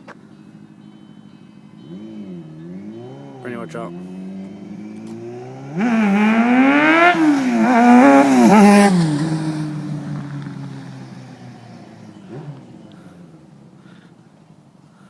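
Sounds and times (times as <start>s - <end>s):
motorcycle engine accelerating: 1.6s - 14.1s.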